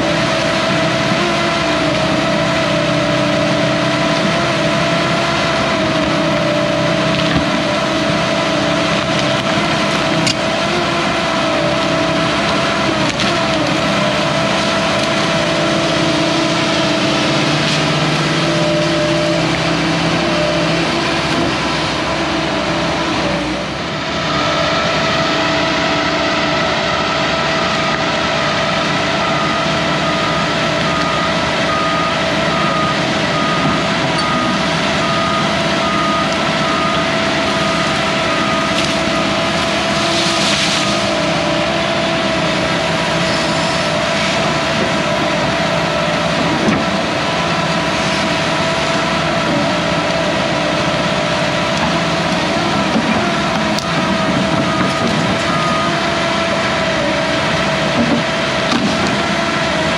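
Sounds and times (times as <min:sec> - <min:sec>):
excavator diesel engine running: 0:00.0 - 0:59.9
steady whine: 0:00.0 - 0:59.9.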